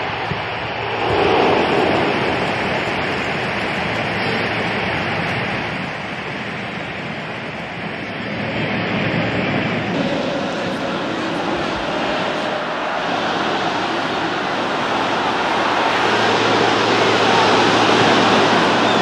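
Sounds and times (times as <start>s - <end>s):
stadium crowd cheering: 0.0s - 19.0s.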